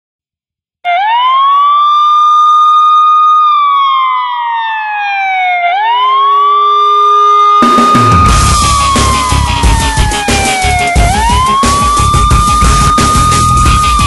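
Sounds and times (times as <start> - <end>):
siren wail: 0.8 - 14.0.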